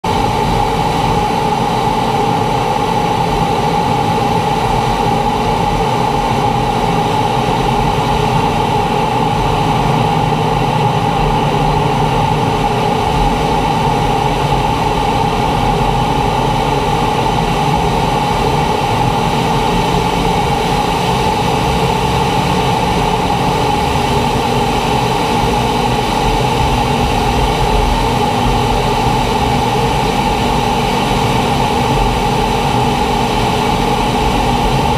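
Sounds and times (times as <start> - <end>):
jet engine drone: 0.0 - 34.9
jet engine whine: 0.0 - 34.9.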